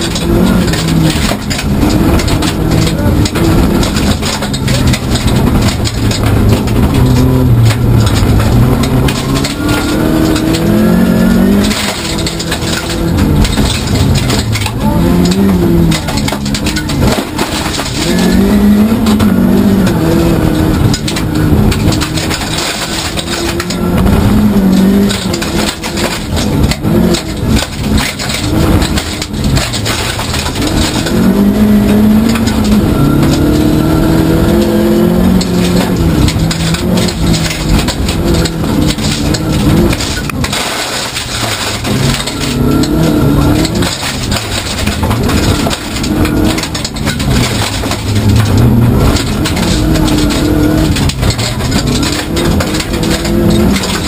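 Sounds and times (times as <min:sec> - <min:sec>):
gravel road noise: 0:00.0 - 0:54.0
rally car engine revving: 0:00.0 - 0:54.0.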